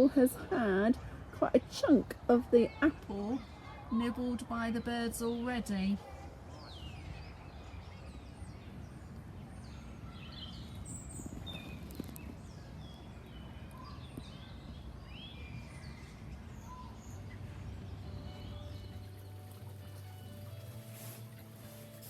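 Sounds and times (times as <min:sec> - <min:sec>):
birds singing and chirping: 0:00.0 - 0:22.0.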